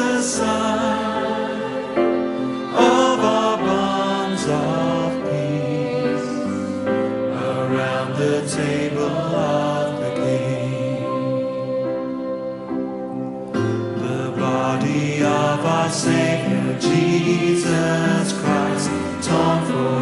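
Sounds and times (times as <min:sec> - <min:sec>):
voices singing a hymn: 0:00.0 - 0:20.0.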